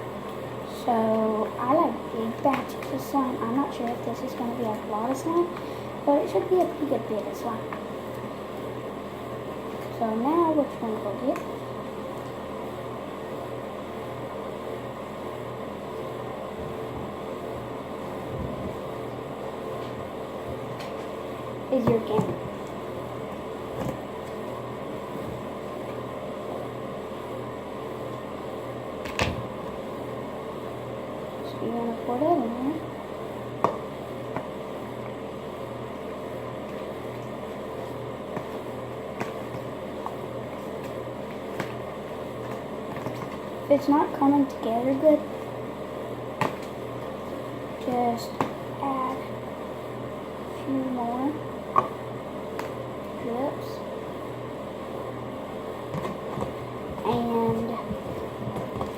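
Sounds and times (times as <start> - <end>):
fan humming: 0.0 - 58.9.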